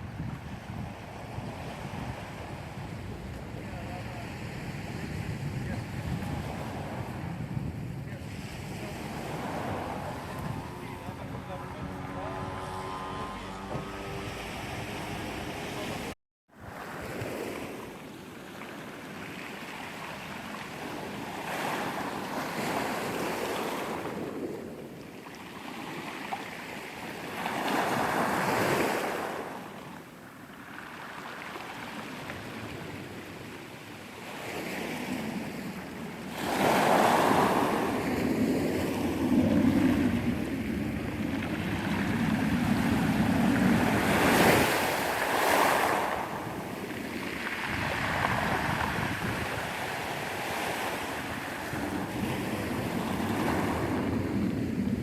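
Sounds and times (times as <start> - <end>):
wind on microphone: 0.0 - 18.1, 27.0 - 55.0
sea waves washing onto shore: 0.0 - 55.0.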